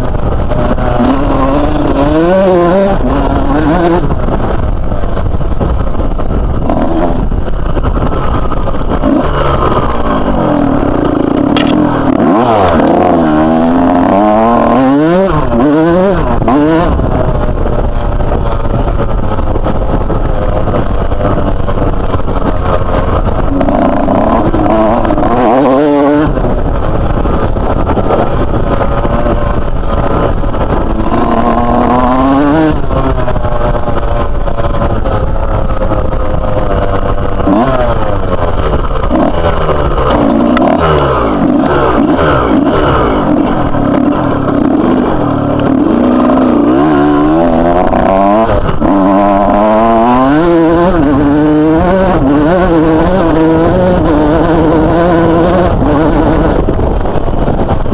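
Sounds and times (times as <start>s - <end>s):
two-stroke motorbike revving: 0.0s - 57.9s.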